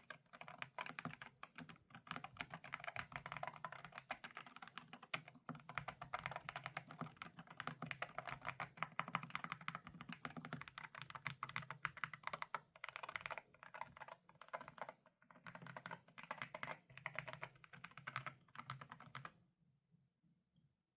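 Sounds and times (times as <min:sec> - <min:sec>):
mechanical keyboard typing: 0:00.0 - 0:19.3.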